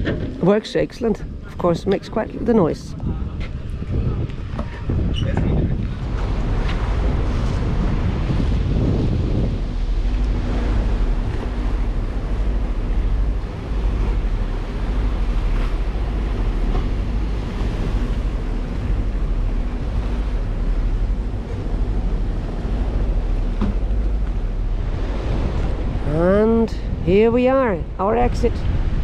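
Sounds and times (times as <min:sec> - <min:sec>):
boat motor running: 0:00.0 - 0:29.0
rushing water: 0:00.0 - 0:29.0
wind buffeting microphone: 0:00.0 - 0:29.0.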